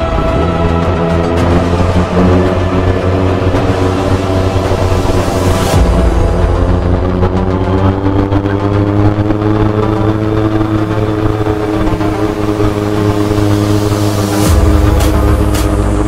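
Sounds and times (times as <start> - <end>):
motorcycle engine cruising: 0.0 - 16.0
music: 0.0 - 16.0.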